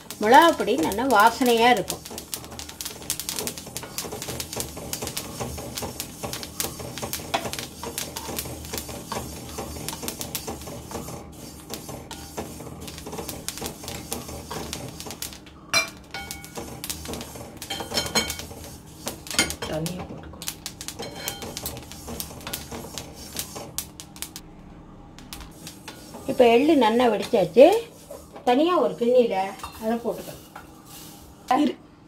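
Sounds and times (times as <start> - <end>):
seeds popping while roasting: 0.0 - 24.5, 25.1 - 28.3.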